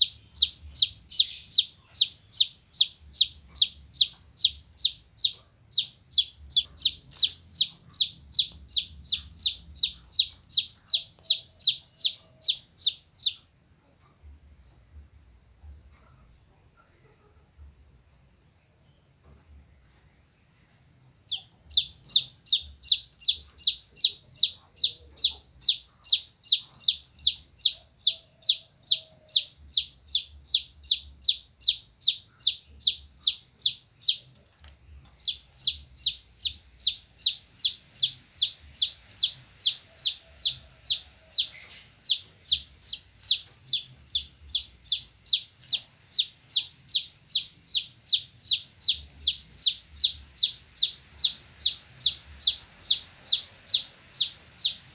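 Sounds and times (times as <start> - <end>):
chick peeping: 0.0 - 14.1, 20.6 - 54.9.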